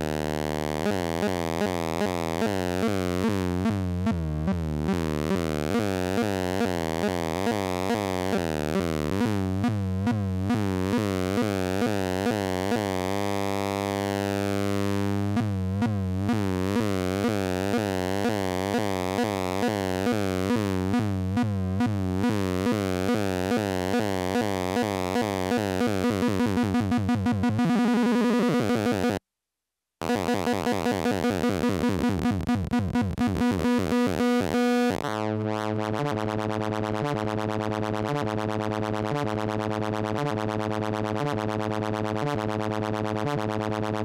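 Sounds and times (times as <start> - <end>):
buzzy synthesizer bass tone pulsing: 0.0 - 13.2, 14.4 - 29.2, 30.0 - 44.0.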